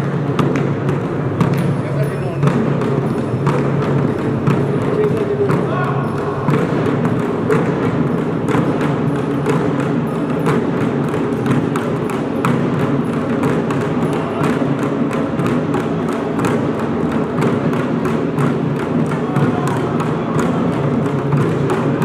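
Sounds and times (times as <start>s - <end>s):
folk percussion music: 0.0s - 22.0s
sharp percussion strokes: 0.0s - 22.0s.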